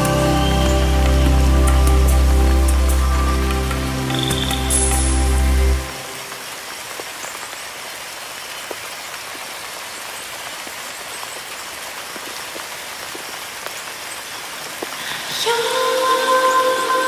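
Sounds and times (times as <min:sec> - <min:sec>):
rain falling: 0:00.0 - 0:17.0
ticks of raindrops: 0:00.0 - 0:17.0.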